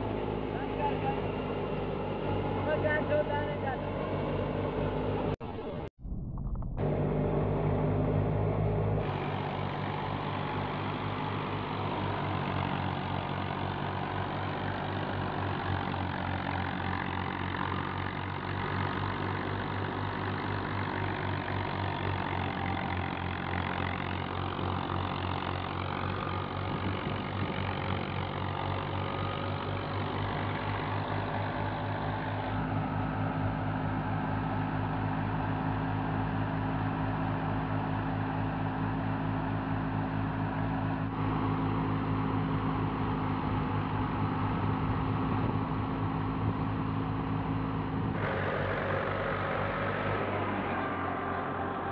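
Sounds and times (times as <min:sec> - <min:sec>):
threshing machine noise: 0:00.0 - 0:51.9
tractor diesel engine running: 0:00.0 - 0:51.9.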